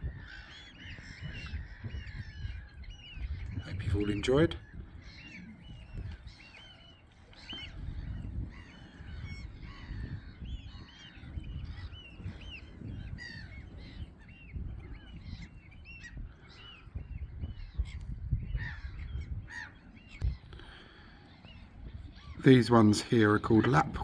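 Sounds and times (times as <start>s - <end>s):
gulls calling: 0.0s - 24.0s.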